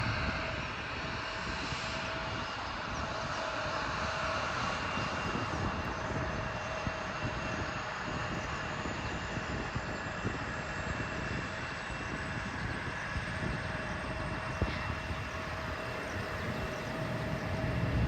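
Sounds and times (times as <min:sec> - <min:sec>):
aircraft engine running: 0:00.0 - 0:18.0.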